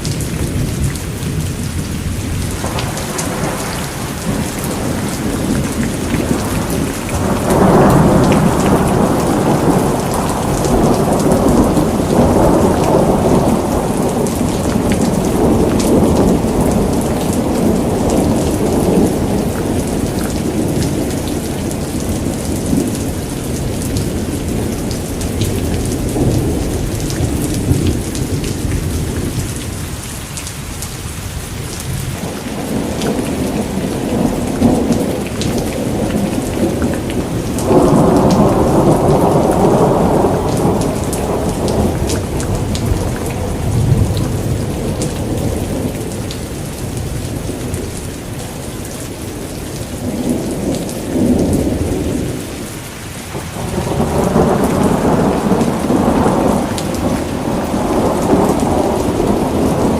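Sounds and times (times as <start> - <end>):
rolling thunder: 0.0 - 30.0, 31.6 - 59.9
heavy rain pattering on surfaces: 0.0 - 59.9.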